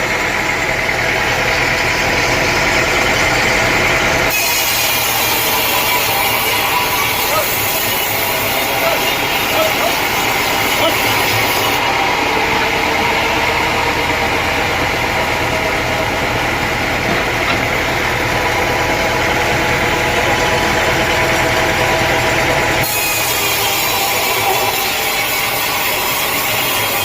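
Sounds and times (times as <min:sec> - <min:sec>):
motor hum: 0:00.0 - 0:27.0
saw cutting through log: 0:00.0 - 0:27.0.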